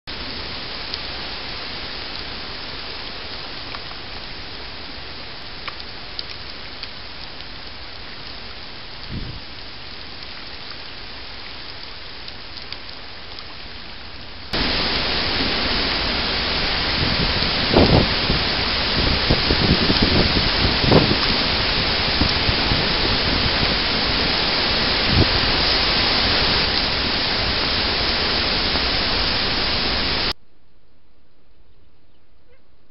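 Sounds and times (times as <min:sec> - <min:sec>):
heavy rain hissing: 0:00.1 - 0:30.4
rain drop ticks: 0:00.8 - 0:01.2, 0:02.0 - 0:30.3.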